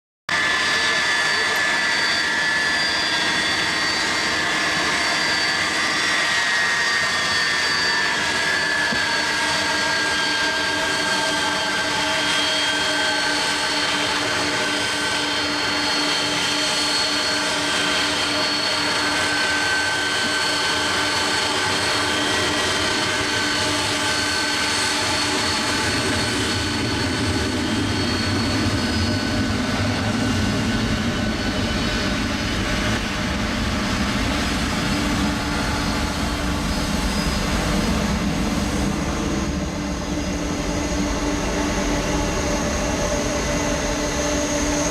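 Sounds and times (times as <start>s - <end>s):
jet engine rush: 0.3s - 44.9s
jet engine turbine whine: 0.3s - 44.9s.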